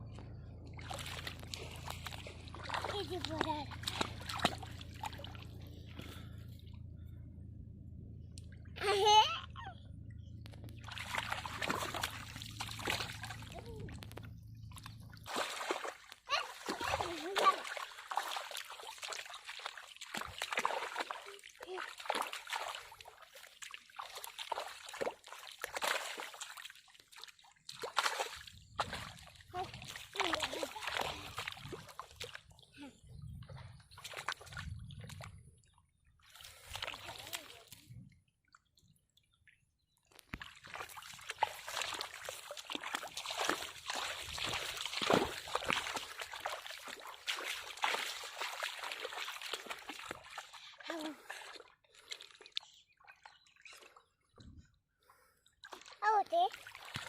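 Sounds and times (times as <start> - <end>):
pond water splashing: 0.0 - 7.0, 10.2 - 57.0.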